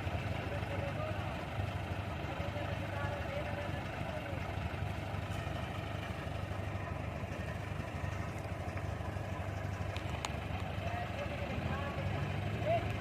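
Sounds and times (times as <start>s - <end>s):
diesel engine low hum: 0.0s - 13.0s.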